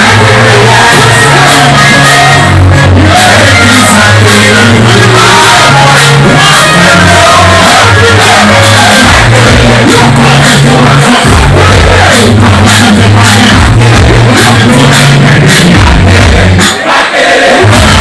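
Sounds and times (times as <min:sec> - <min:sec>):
heavy bass line: 0:00.0 - 0:16.7, 0:17.6 - 0:18.0
crowd shouting and singing: 0:00.0 - 0:18.0
loud dancehall music: 0:00.0 - 0:18.0.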